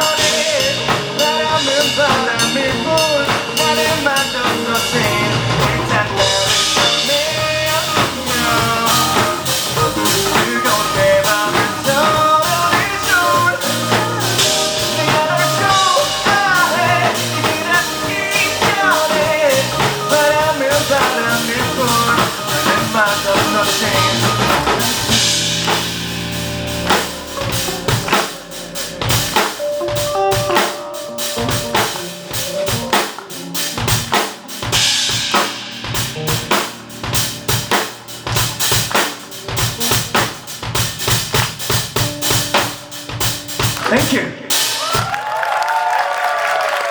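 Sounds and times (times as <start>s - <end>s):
lead melody with bending notes: 0.0s - 44.3s
drum kit: 0.0s - 46.9s.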